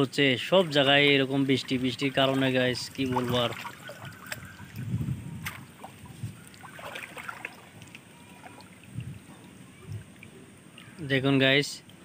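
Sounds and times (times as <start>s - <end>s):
water sloshing and splashing: 0.0s - 11.2s.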